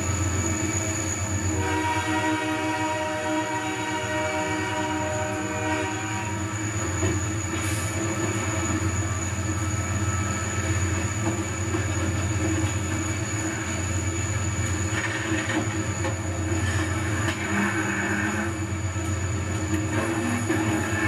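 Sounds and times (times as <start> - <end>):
locomotive engines rumbling: 0.0 - 21.0
wheel squeal on rails: 0.0 - 21.0.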